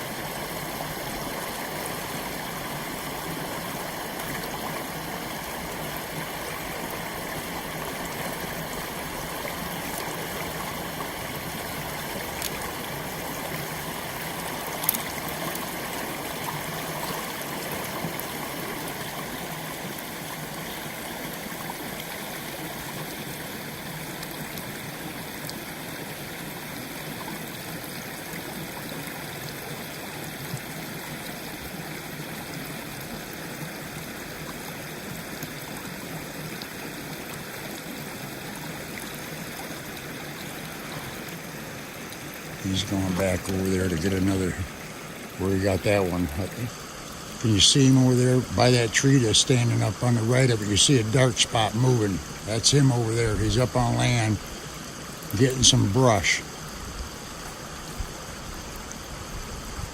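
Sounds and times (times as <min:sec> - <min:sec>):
water rushing through a dam: 0:00.0 - 0:59.9.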